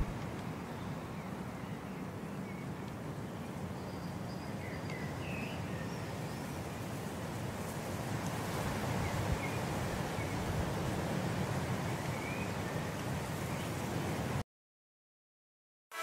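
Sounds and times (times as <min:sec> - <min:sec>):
outdoor background noise: 0:00.0 - 0:14.4.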